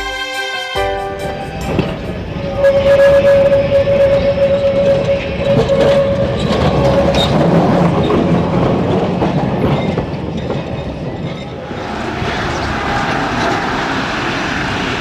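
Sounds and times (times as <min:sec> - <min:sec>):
electric tram rumbling over rails: 0:00.8 - 0:15.0.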